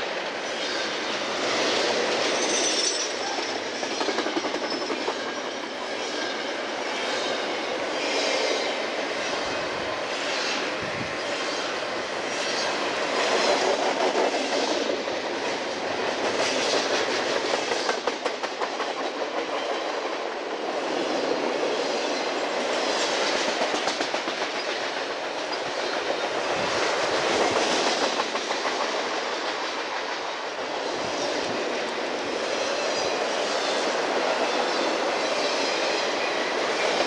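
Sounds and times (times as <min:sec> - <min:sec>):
freight train rolling past: 0:00.0 - 0:37.0.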